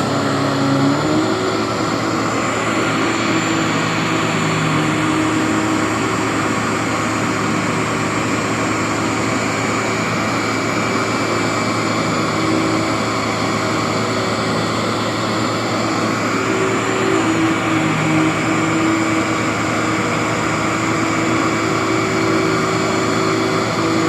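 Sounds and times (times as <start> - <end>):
vacuum cleaner motor drone: 0.0 - 24.0.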